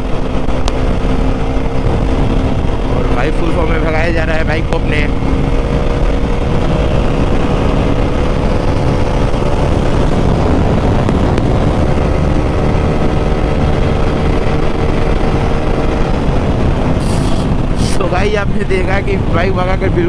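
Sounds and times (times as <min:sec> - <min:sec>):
motorcycle engine running: 0:00.0 - 0:20.0
wind rush on microphone: 0:00.0 - 0:20.0.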